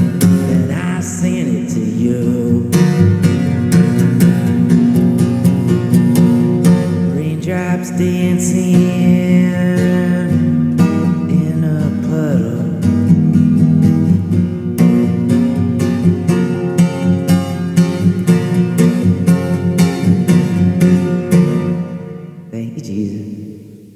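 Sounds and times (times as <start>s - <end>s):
strummed acoustic guitar: 0.0s - 22.7s.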